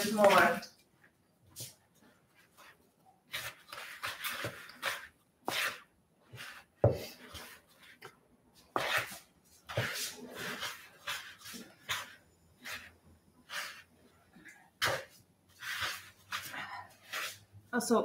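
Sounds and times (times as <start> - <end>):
wooden spoon scraping dough: 1.6 - 17.7.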